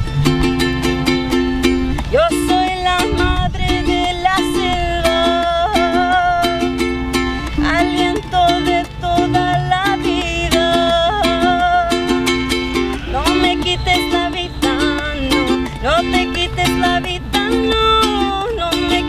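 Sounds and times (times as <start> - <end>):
ukulele strumming: 0.0 - 19.0
woman singing: 0.5 - 19.0.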